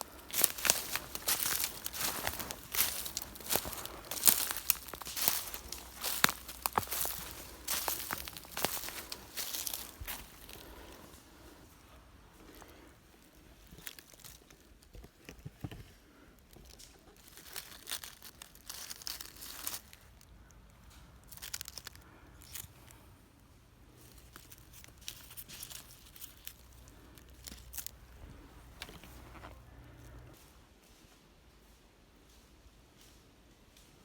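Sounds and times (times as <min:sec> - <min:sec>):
rustling and crackling: 0:00.0 - 0:34.0.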